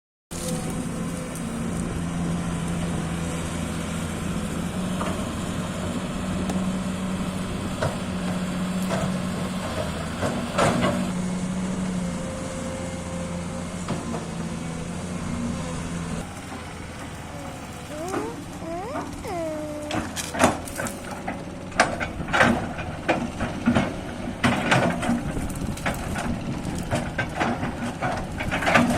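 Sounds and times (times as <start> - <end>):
excavator diesel engine running: 0.3 - 28.9.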